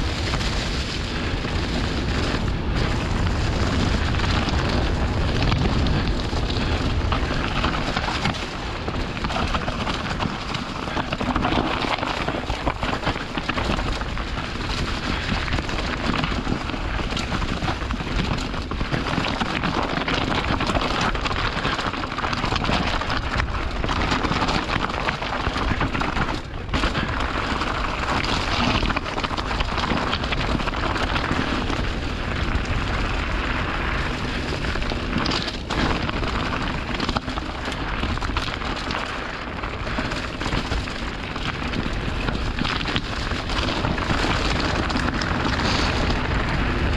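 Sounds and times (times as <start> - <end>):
bike rattling over bumps: 0.0 - 46.9
tyres crunching on gravel: 0.0 - 46.9
wind rumbling on microphone: 0.0 - 46.9.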